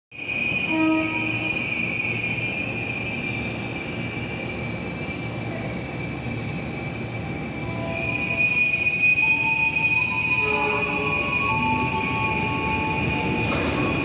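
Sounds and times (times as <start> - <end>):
train rumbling: 0.2 - 14.0
high-pitched squealing: 0.3 - 14.0.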